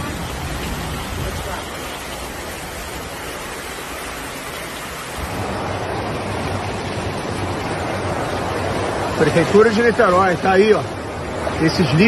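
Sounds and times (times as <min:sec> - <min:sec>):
floodwater rushing: 0:00.0 - 0:12.0
rain falling: 0:00.0 - 0:12.0.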